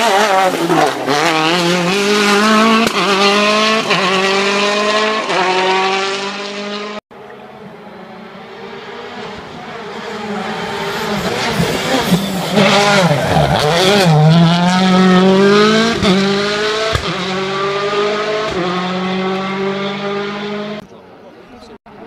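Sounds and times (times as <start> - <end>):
rally car engine revving: 0.0 - 7.0, 7.6 - 20.8.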